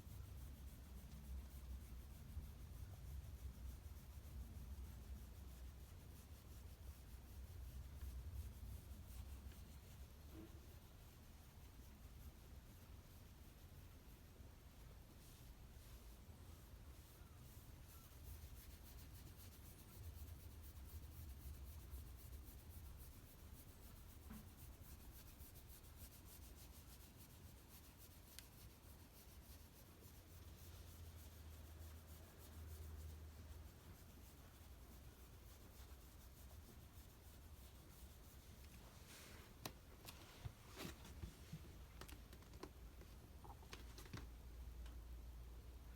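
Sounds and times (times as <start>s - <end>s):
hand rubbing dog fur: 0.0s - 41.7s.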